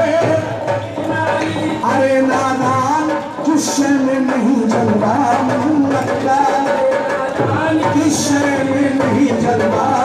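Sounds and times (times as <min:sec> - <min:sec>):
devotional singing: 0:00.0 - 0:10.0
hand drum: 0:00.0 - 0:10.0.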